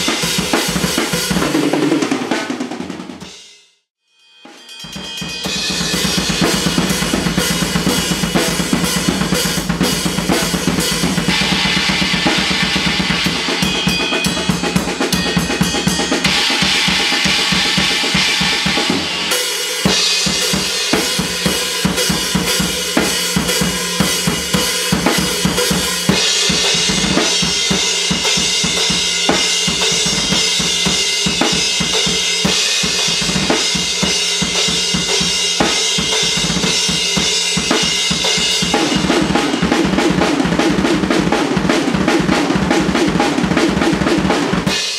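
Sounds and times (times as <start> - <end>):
fast bass drum strokes: 0.0 - 3.3, 4.9 - 44.9
drum kit playing metal patterns: 0.0 - 3.5, 4.3 - 44.9
cymbals: 3.2 - 43.6, 44.2 - 44.9
snare drum: 5.8 - 44.9.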